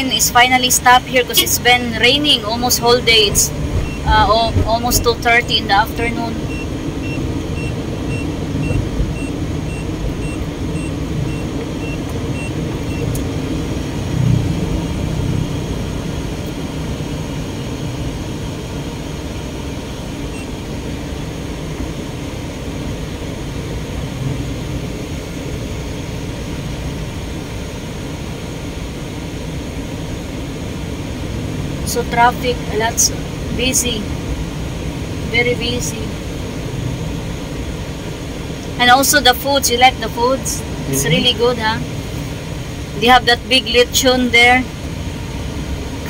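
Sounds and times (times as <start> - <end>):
car road and engine noise: 0.0 - 46.0.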